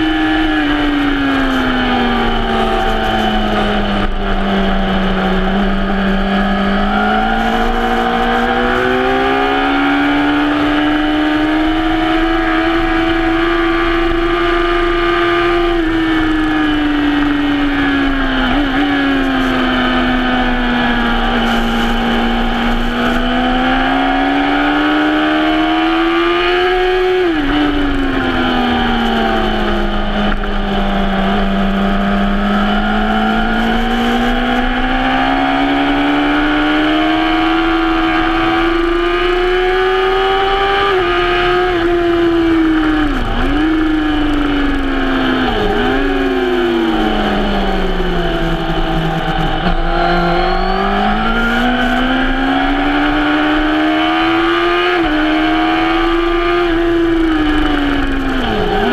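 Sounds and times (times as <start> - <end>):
motorcycle engine at high revs: 0.0 - 58.9.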